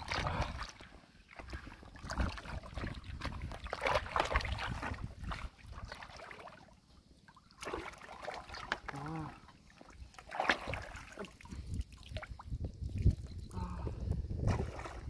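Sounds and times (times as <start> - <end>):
water sloshing and splashing: 0.0 - 13.4, 14.3 - 15.0.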